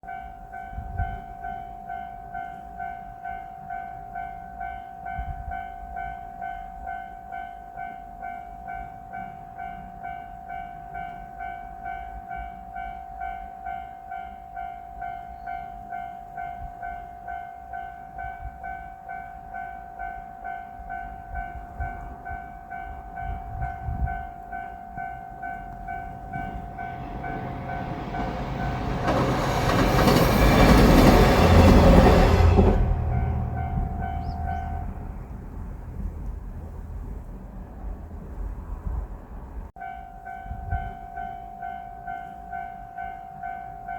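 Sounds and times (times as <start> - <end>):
approaching diesel railcar: 0.0 - 43.9.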